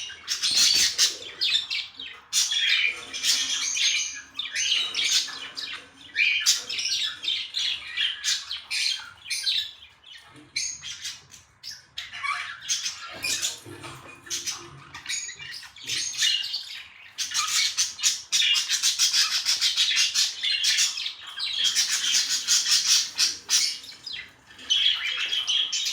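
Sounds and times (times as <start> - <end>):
budgerigars chirping: 0.0 - 25.9.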